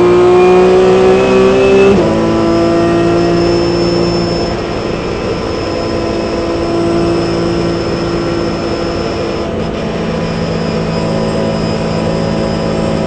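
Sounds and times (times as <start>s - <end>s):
race car engine running: 0.0s - 13.0s.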